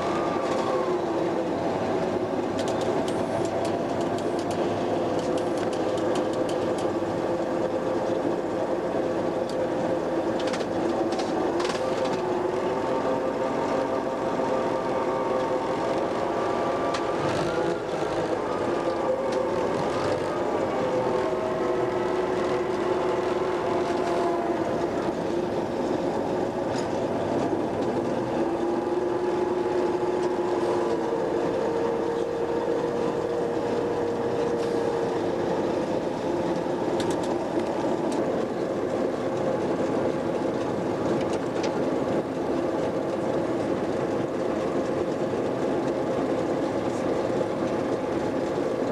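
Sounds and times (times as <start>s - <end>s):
diesel locomotive engine: 0.0s - 48.9s.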